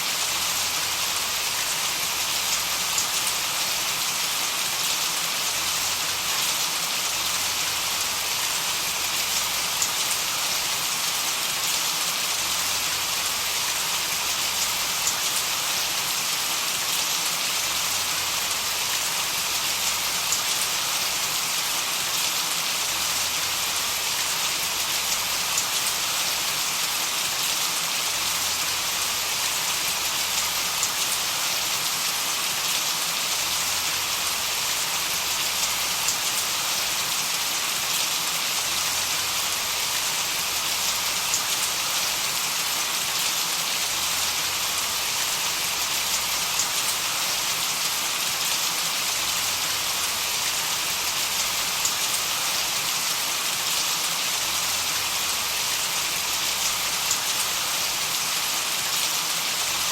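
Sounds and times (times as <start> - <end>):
steady white-noise hiss: 0.0 - 59.9.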